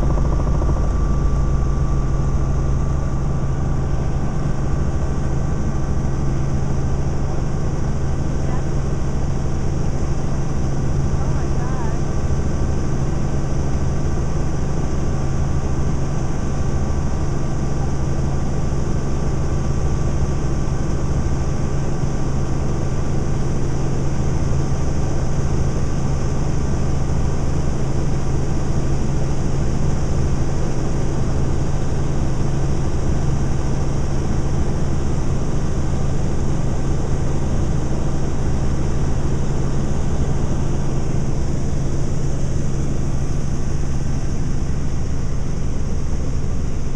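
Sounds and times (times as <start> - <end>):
helicopter cabin drone: 0.0 - 46.9.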